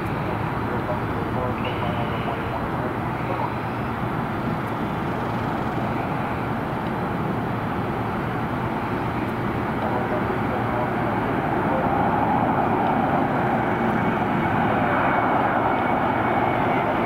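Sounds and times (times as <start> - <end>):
jet engine rumble and roar: 0.0 - 17.0.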